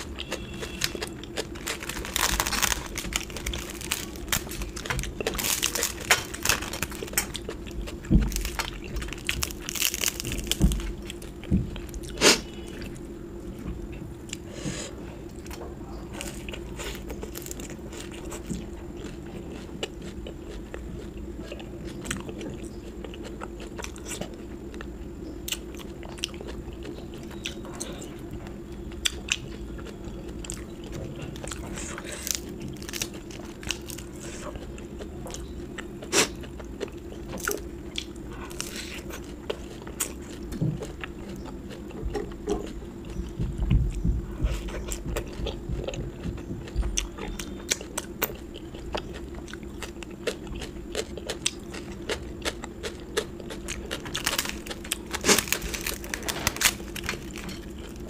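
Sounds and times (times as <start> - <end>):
chewing and crunching food: 0.0 - 58.0
low hum: 0.0 - 58.0.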